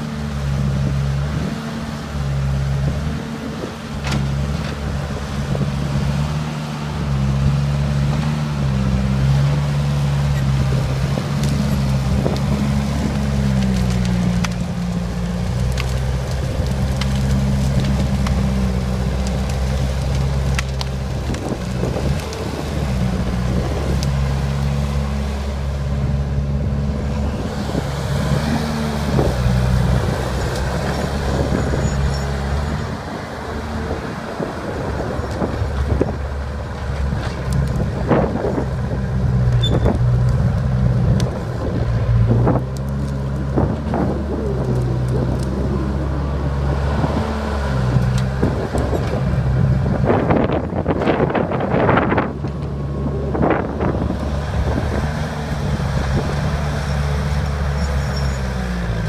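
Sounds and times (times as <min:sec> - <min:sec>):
bulldozer engine under load: 0:00.0 - 0:59.0.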